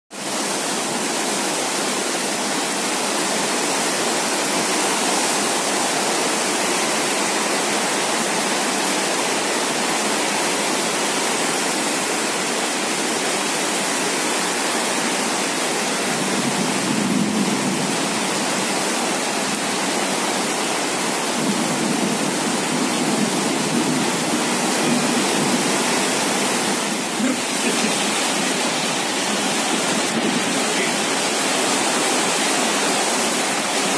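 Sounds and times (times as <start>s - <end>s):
heavy rain on tiled roofs: 0.1s - 33.9s.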